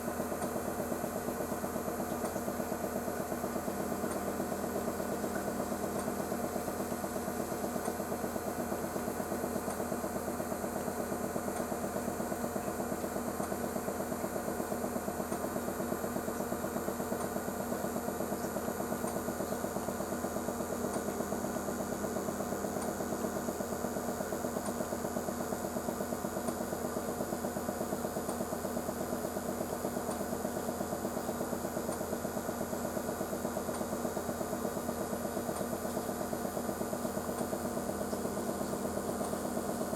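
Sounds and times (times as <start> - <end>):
machine hum with flutter: 0.0 - 39.9.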